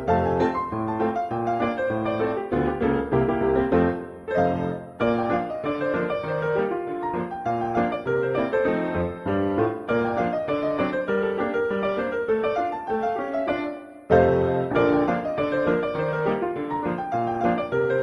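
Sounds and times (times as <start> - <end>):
piano playing brisk notes: 0.0 - 18.0.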